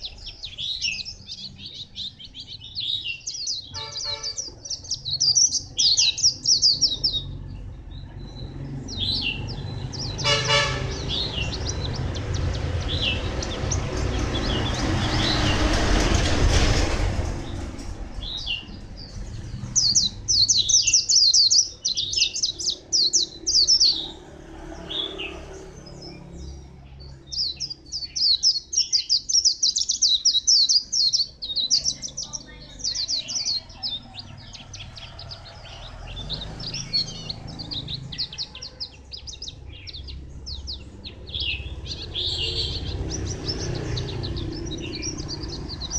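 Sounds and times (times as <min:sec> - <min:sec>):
bird twittering song: 0:00.0 - 0:45.9
passing traffic rumble: 0:00.0 - 0:45.9.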